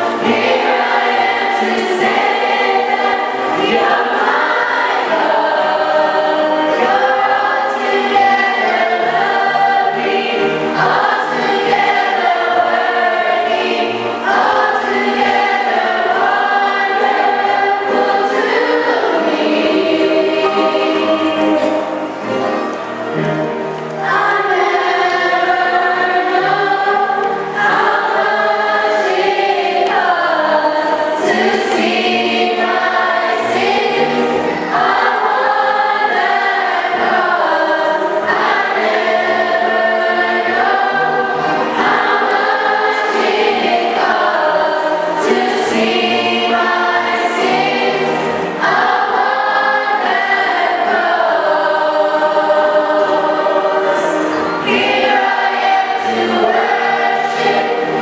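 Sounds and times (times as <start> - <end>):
choir singing gospel: 0.0 - 58.0.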